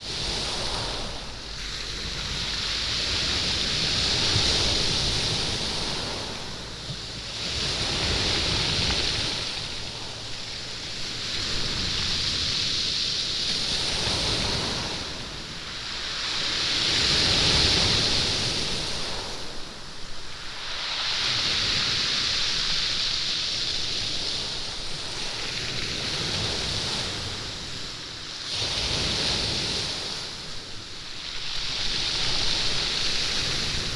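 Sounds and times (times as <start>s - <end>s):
waves rolling stones on beach: 0.0s - 33.9s.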